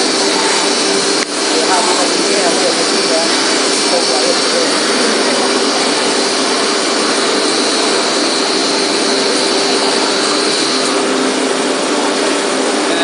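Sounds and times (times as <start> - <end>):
drilling machine running: 0.0 - 13.0.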